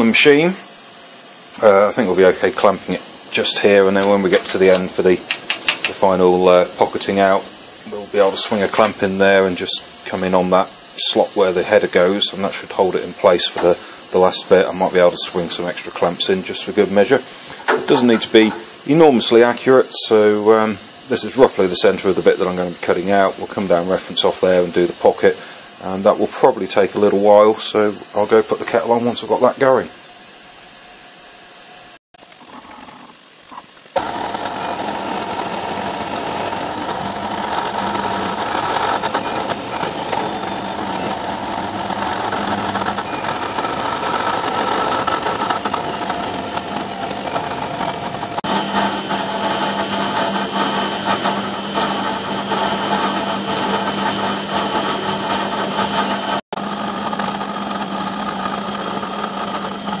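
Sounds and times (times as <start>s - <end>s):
milling machine cutting metal: 1.6s - 29.8s, 33.4s - 60.0s.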